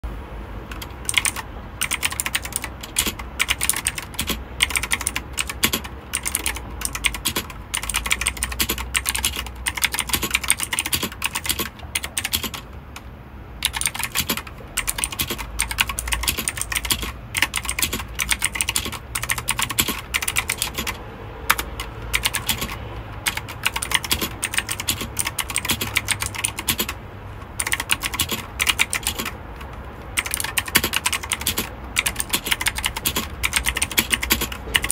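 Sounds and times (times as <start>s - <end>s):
mechanical keyboard typing: 0.6s - 34.9s.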